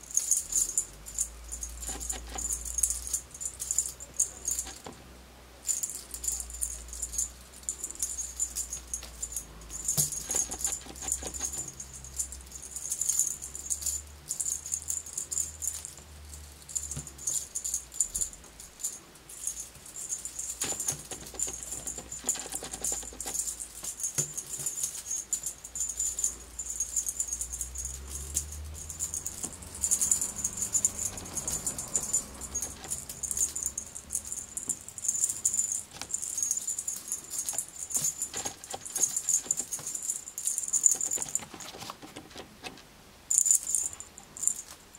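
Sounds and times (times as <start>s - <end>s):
cat toy jingling rattle: 0.0s - 5.0s, 5.6s - 42.7s, 43.3s - 44.9s.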